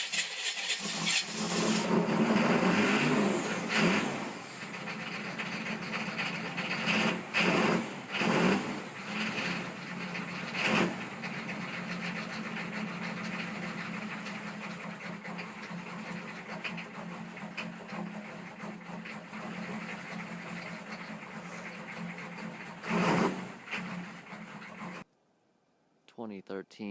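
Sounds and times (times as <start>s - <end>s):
diesel engine clattering idle: 3.3s - 25.0s.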